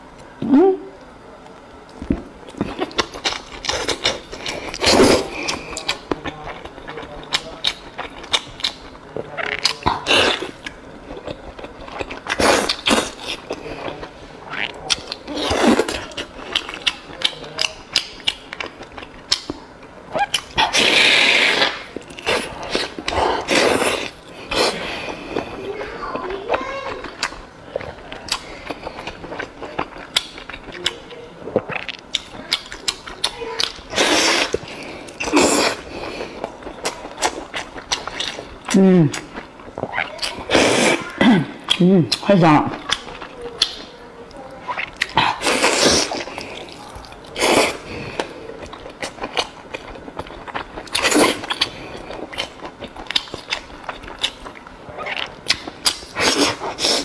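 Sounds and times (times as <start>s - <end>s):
wet chewing and sucking: 2.0s - 42.2s, 42.8s - 57.0s.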